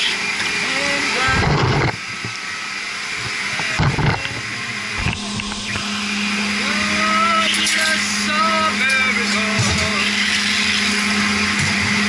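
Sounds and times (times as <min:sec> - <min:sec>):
circulating pumps whirring: 0:00.0 - 0:12.0
low steady hum: 0:00.4 - 0:12.0.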